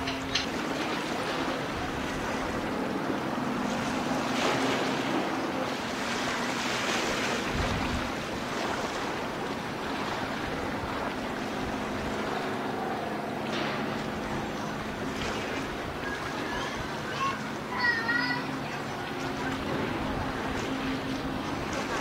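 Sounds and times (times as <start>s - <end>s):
sea wash: 0.0s - 22.0s
wind: 0.0s - 22.0s.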